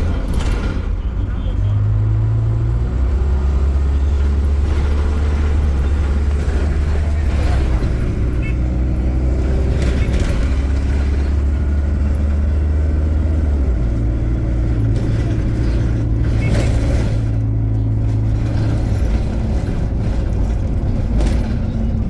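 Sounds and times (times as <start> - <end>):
diesel bus engine drone: 0.0 - 22.0.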